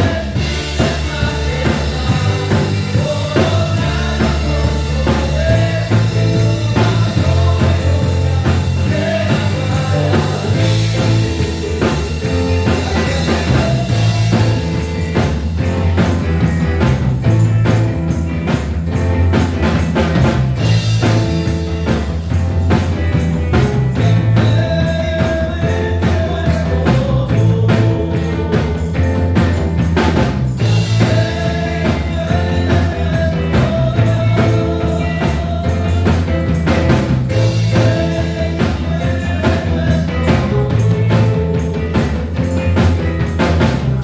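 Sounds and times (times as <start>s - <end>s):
person singing: 0.0s - 16.6s, 20.2s - 44.0s
live band playing: 0.0s - 44.0s.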